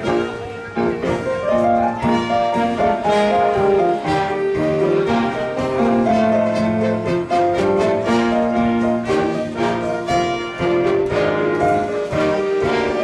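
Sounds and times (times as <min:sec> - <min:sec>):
orchestra playing: 0:00.0 - 0:13.0.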